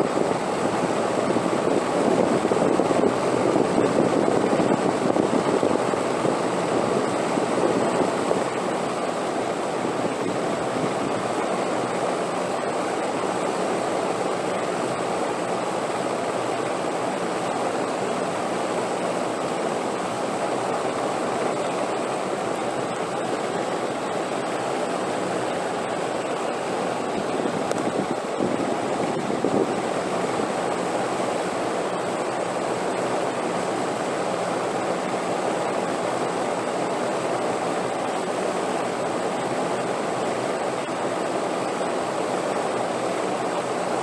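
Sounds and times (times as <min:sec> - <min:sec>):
rushing wind: 0:00.0 - 0:44.0.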